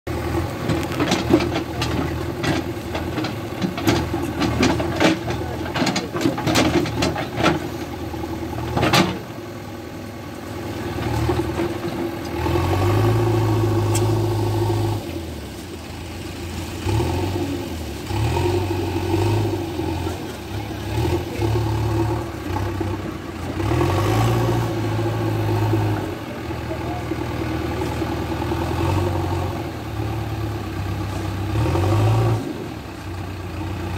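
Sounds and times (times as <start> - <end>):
diesel engine revving: 0.1 - 33.9.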